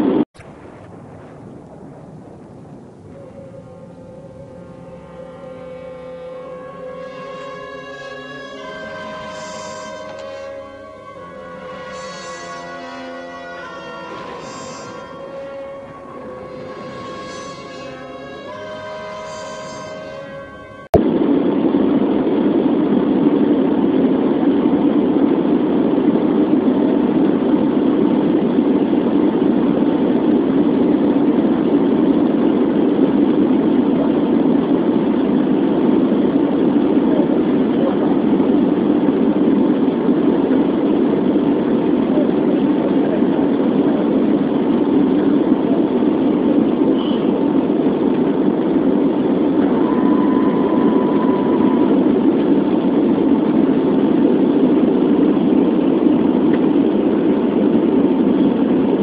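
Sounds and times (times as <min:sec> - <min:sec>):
airliner engines droning: 0:00.0 - 0:59.0.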